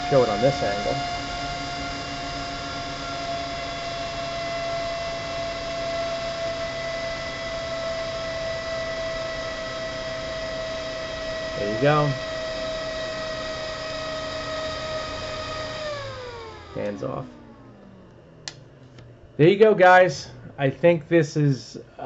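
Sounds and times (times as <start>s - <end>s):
cooling fan whine and air rush: 0.0s - 22.0s.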